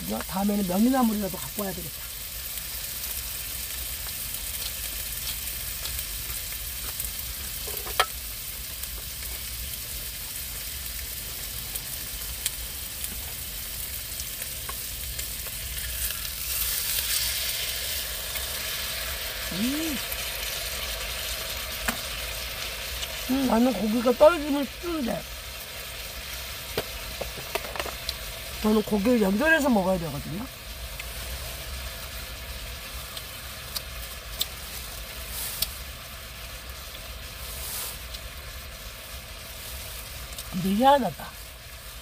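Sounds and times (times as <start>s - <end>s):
meat sizzling in a pan: 0.0s - 42.0s.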